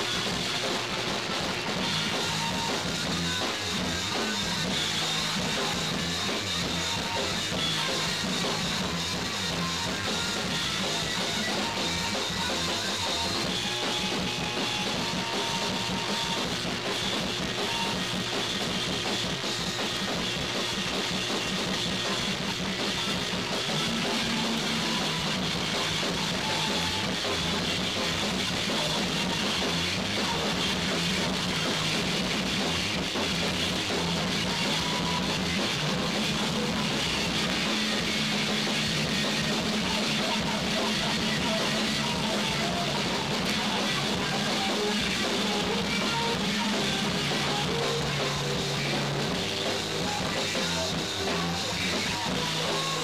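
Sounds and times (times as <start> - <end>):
distorted guitars: 0.0 - 53.0
drum kit: 0.0 - 53.0.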